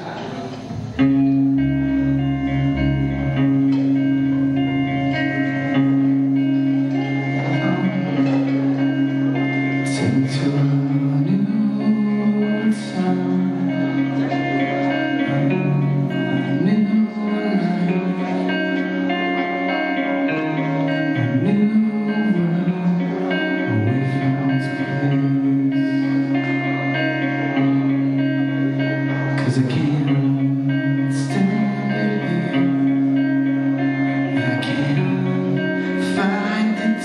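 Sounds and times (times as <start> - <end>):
electric guitars and bass: 0.0 - 37.0.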